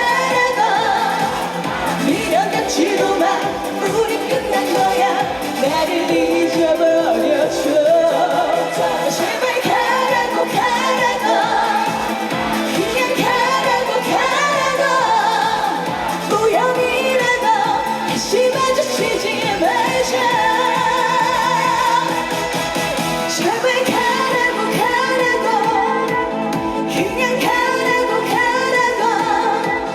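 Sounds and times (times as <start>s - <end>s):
backing band track: 0.0s - 29.9s
woman singing with vibrato: 0.0s - 29.9s.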